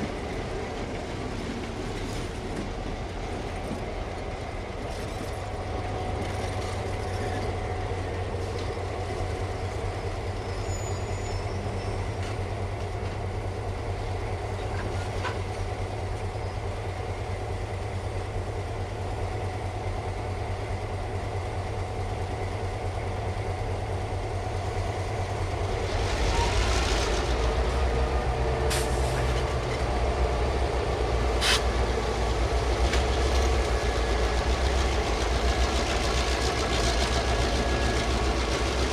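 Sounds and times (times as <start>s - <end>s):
diesel locomotive engine droning: 0.0s - 38.9s.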